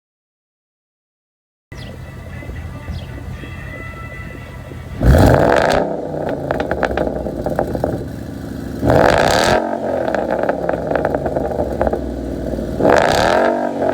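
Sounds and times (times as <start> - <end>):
car engine revving: 1.7 - 13.9
exhaust pops and crackles: 1.8 - 13.9.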